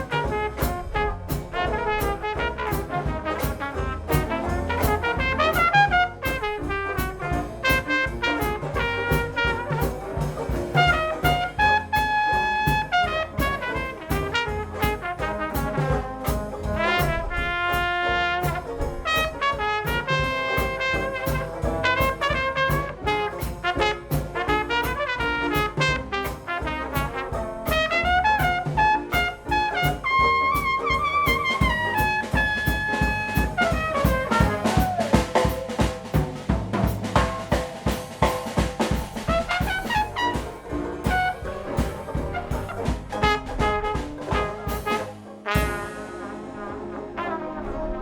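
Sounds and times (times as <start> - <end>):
dixieland jazz band: 0.0 - 48.0
trumpet lead: 0.0 - 48.0.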